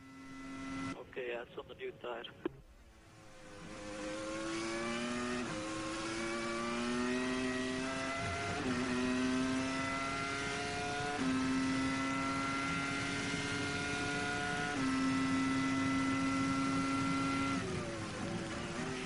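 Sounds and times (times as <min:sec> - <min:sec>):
racing car engine at high revs: 0:00.0 - 0:01.0, 0:03.0 - 0:19.0.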